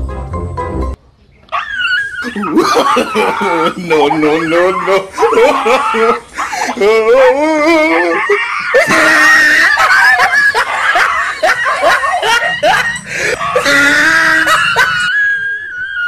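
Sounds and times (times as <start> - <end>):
dog yelping: 1.5 - 16.0.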